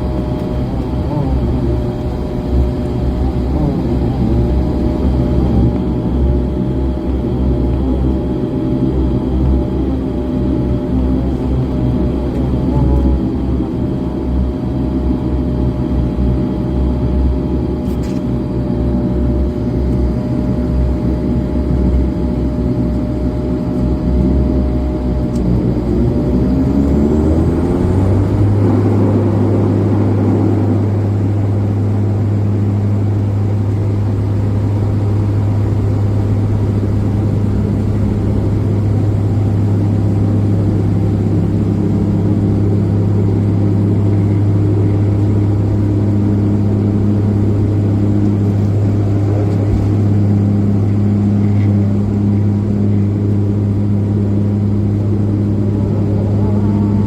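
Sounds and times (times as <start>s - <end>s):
propeller drone: 0.0s - 57.0s
turboprop engines roaring: 0.0s - 57.0s.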